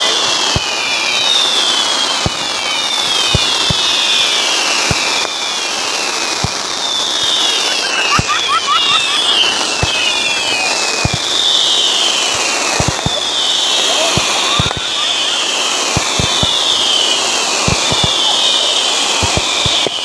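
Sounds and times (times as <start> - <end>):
fireworks crackling: 0.0 - 20.0
fireworks falling whistles: 0.0 - 20.0
fireworks low bangs: 0.0 - 20.0.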